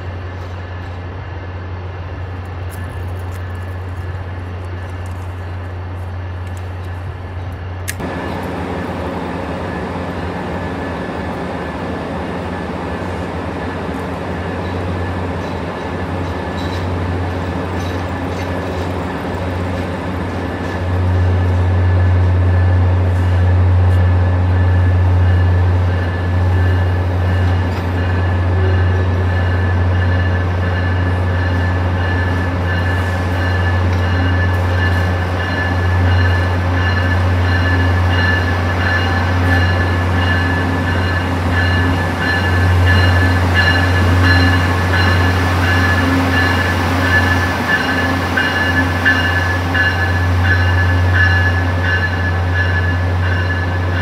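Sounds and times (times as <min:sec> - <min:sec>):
train rolling slowly: 0:00.0 - 0:54.0.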